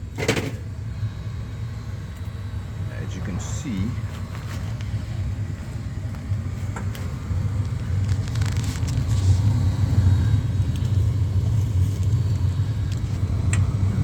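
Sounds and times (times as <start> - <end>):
gas furnace rumble and hum: 0.0 - 14.0.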